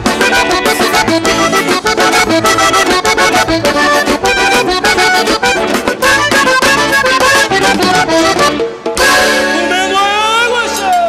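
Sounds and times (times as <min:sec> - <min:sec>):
accordion melody: 0:00.0 - 0:10.8
acoustic guitar: 0:00.0 - 0:11.0
bass guitar: 0:00.0 - 0:11.0
drums: 0:00.0 - 0:11.0.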